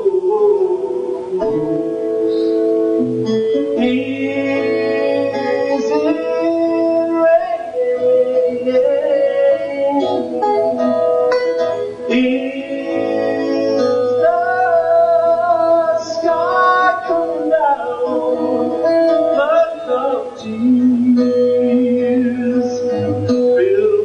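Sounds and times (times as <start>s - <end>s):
guitar accompaniment: 0.0s - 24.0s
bending lead melody: 0.8s - 24.0s.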